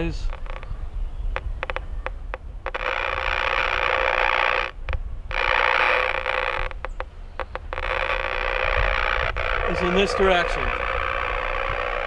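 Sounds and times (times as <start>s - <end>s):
buzzing radio static: 0.0s - 12.0s
crackling clicks: 0.0s - 12.0s.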